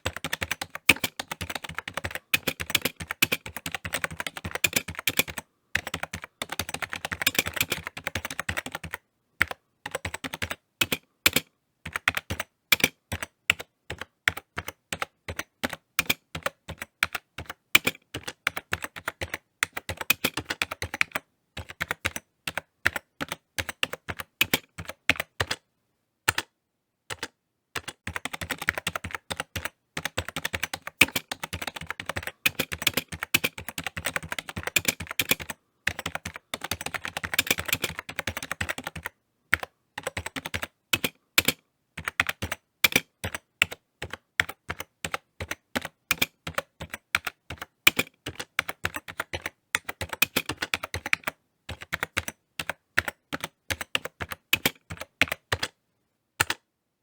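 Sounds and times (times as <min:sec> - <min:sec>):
computer keyboard typing: 0:00.0 - 0:25.6, 0:26.3 - 0:26.5, 0:27.1 - 0:55.8, 0:56.4 - 0:56.6.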